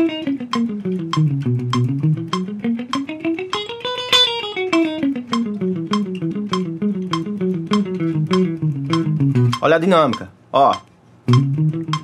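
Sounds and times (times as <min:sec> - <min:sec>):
electric guitar picking a scale: 0:00.0 - 0:12.0
metronome clicking: 0:00.0 - 0:12.0.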